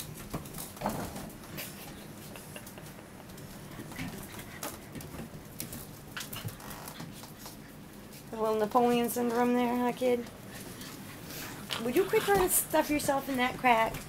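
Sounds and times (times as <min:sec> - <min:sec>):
puppies playing and scuffling: 0:00.0 - 0:14.0.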